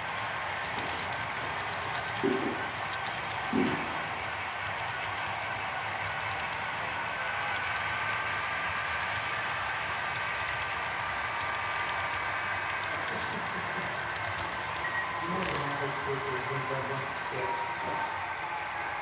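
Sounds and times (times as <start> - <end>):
wheels clicking on rails: 0.0 - 16.7
model train cars rolling: 0.0 - 18.1.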